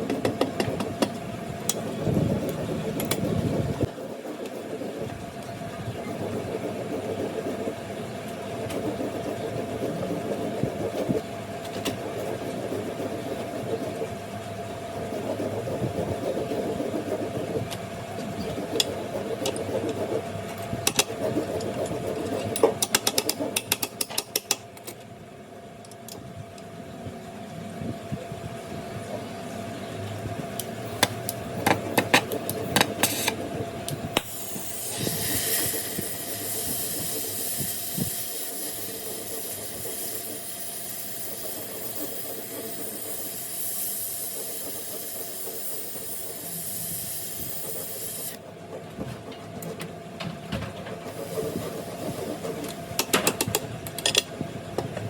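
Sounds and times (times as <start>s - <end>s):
machine hum: 0.0s - 24.0s, 24.7s - 55.0s.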